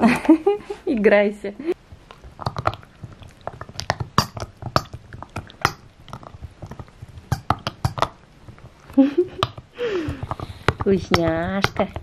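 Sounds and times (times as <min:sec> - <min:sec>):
dog chewing rubber ball: 0:01.8 - 0:12.0.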